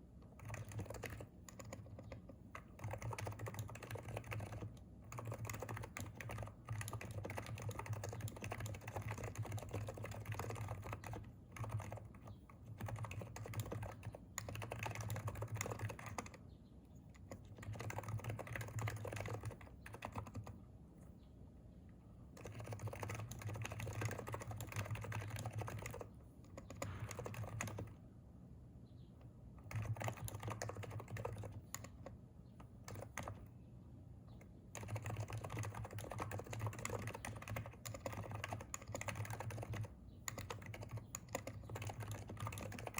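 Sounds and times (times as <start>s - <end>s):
fast keyboard typing: 0.0s - 16.4s, 17.1s - 20.6s, 22.3s - 28.0s, 29.6s - 33.6s, 34.3s - 42.9s.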